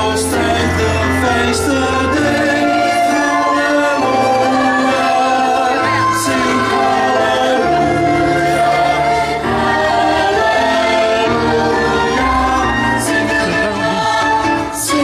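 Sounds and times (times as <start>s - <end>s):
choir singing through pa: 0.0s - 15.0s.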